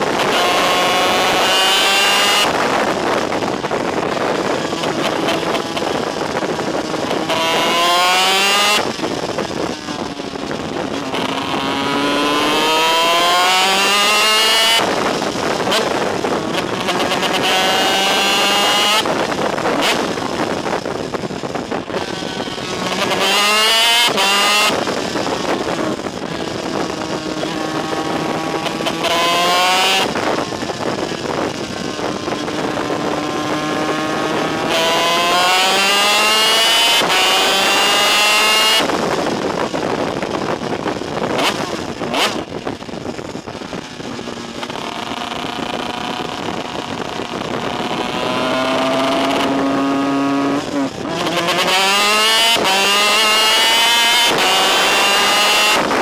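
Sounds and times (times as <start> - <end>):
kart two-stroke engine revving: 0.0 - 56.0.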